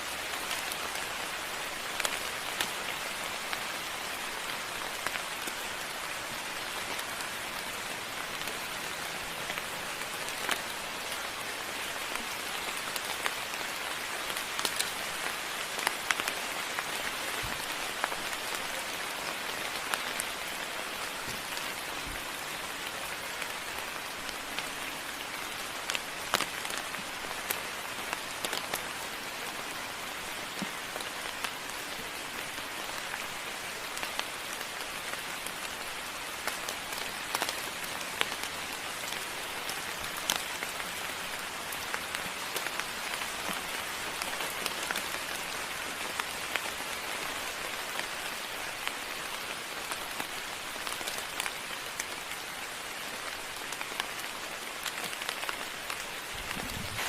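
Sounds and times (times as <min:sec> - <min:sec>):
steady rain falling: 0:00.0 - 0:57.0
close raindrops tapping: 0:00.1 - 0:57.0.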